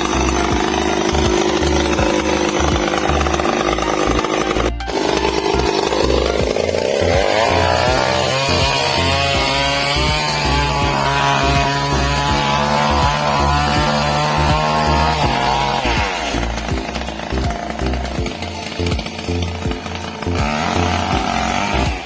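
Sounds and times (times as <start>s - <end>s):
chainsaw cutting a tree: 0.0s - 22.0s.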